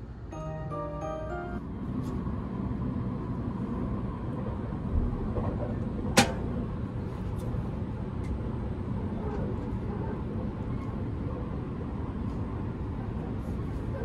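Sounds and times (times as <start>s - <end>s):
train rumble inside cabin: 0.0s - 14.0s.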